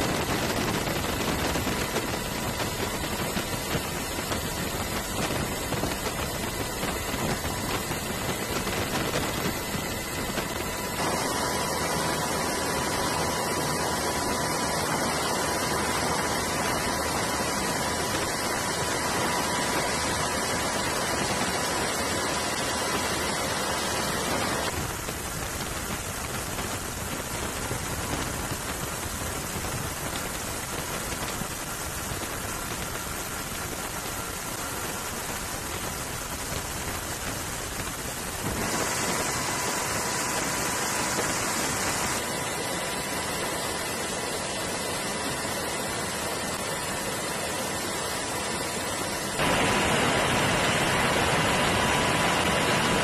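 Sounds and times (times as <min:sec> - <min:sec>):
aircraft engine and airflow rushing: 0:00.0 - 0:53.0
faint steady whine: 0:00.0 - 0:53.0.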